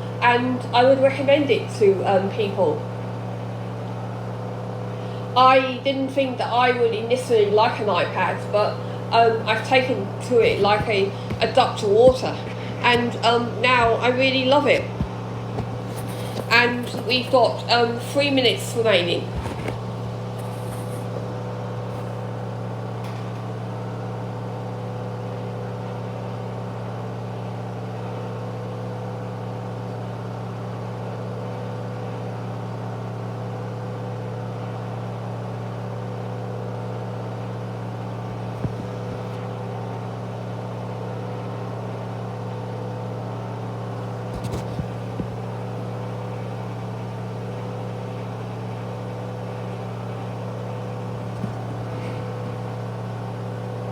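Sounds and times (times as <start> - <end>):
washing machine spin hum: 0.0 - 53.9.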